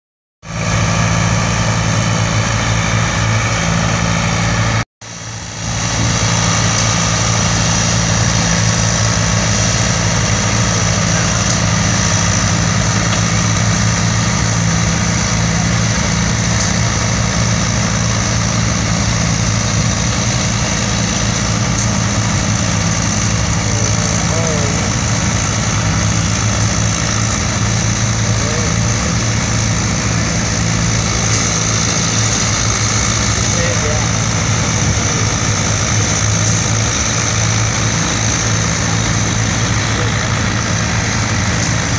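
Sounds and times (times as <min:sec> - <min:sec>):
tractor engine under load: 0:00.5 - 0:41.9.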